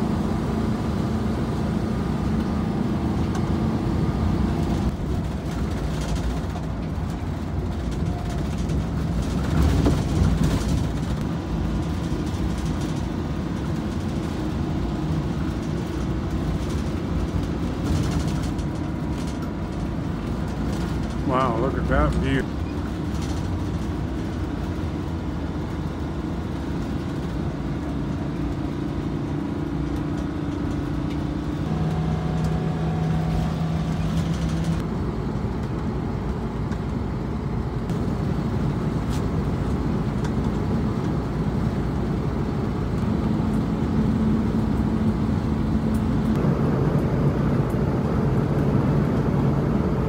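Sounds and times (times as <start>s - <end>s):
motorhome engine and road noise: 0.0s - 50.0s.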